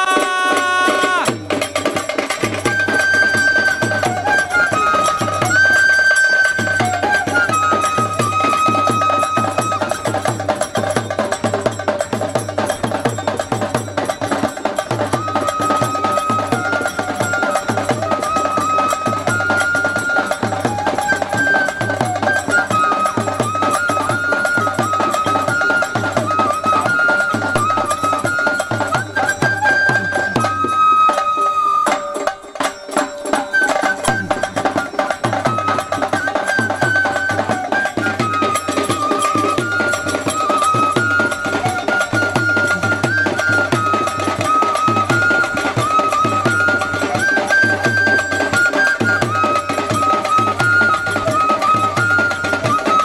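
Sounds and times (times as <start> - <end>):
steady drum beat: 0.0 - 3.0, 6.6 - 31.0, 32.2 - 51.5
wind instrument melody: 0.0 - 53.0.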